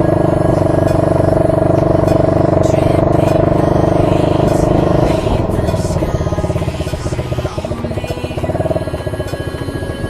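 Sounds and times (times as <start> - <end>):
atv engine chugging: 0.0 - 10.0.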